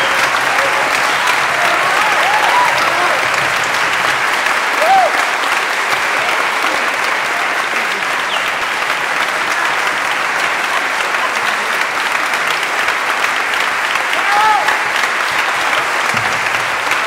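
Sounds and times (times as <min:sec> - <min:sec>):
audience clapping: 0:00.0 - 0:17.0.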